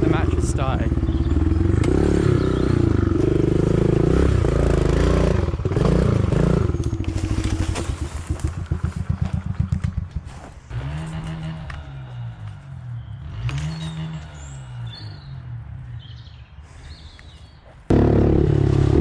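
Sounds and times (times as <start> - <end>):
pit bike engine revving: 0.0 - 16.1, 17.9 - 19.0.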